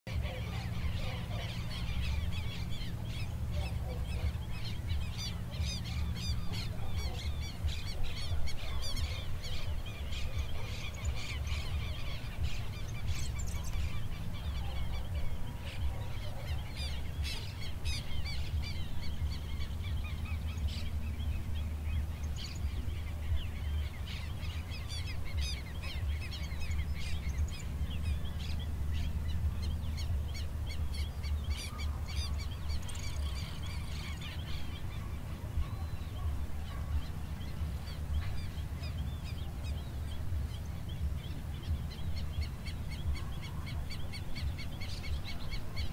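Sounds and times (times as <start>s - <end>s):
birds chirping in chorus: 0.1s - 45.9s
steady low rumble: 0.1s - 45.9s.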